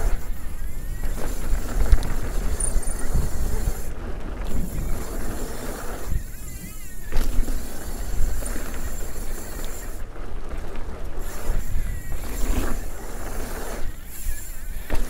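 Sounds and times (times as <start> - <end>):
bike tyres rolling on dirt: 0.0 - 15.0
wind rushing over microphone: 0.0 - 15.0.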